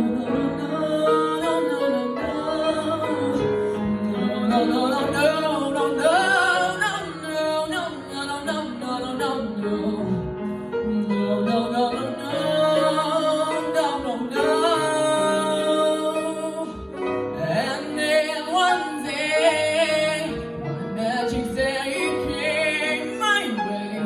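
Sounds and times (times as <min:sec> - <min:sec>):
person singing wordless melody: 0:00.0 - 0:24.0.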